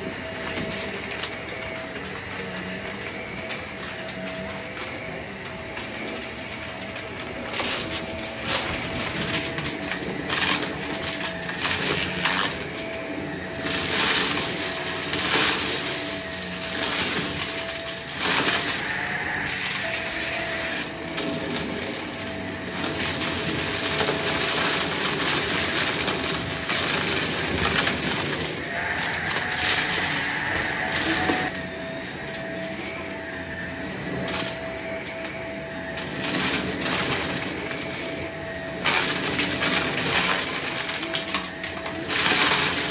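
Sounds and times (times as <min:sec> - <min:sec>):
vacuum motor whine: 0:00.0 - 0:42.9
debris rattling in floor head: 0:07.4 - 0:42.9.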